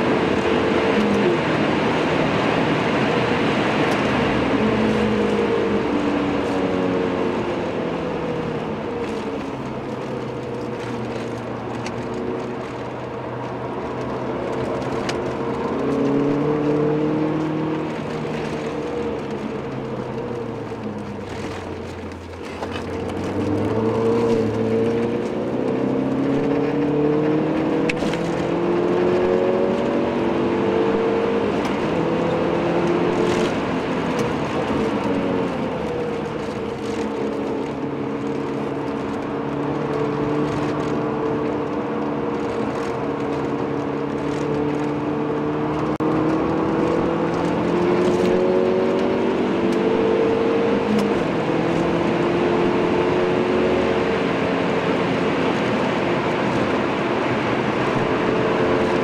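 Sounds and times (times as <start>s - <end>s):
car engine revving in cabin: 0.0s - 59.0s
tyre and wind noise: 0.0s - 59.0s.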